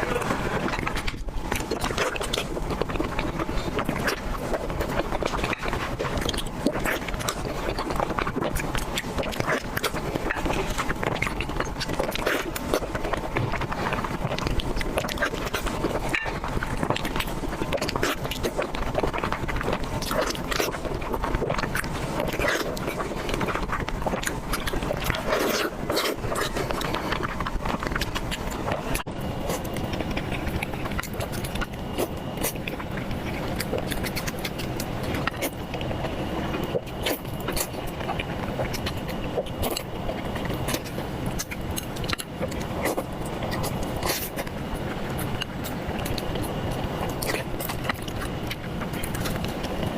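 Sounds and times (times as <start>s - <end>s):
person chewing food: 0.0s - 49.9s
steady background noise: 0.0s - 49.9s.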